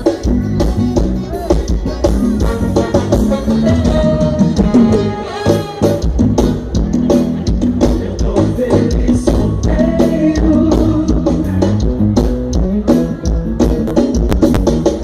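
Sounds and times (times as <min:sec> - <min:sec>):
live band playing amplified music: 0:00.0 - 0:15.0.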